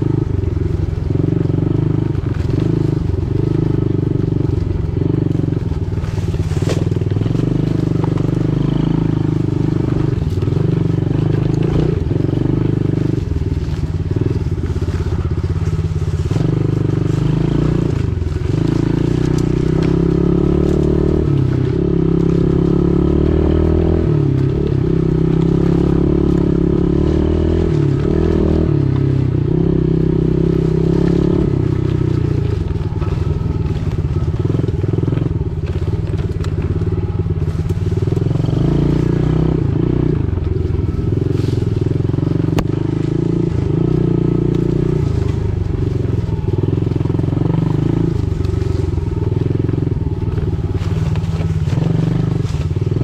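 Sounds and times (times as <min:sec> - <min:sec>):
motorbike engine revving: 0:00.0 - 0:53.0.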